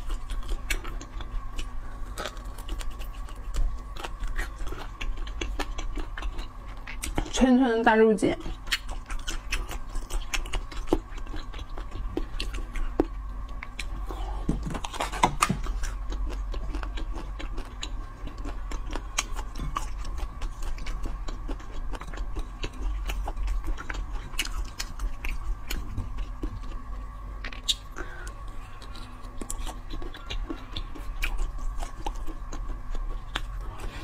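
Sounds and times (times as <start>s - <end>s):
wet chewing mouth clicks: 0.0s - 7.4s, 8.4s - 34.0s
faint high hum: 0.0s - 34.0s.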